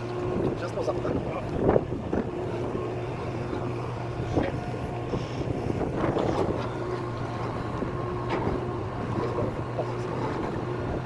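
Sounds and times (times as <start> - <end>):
machinery hum: 0.0 - 11.0
wind buffeting microphone: 0.0 - 11.0.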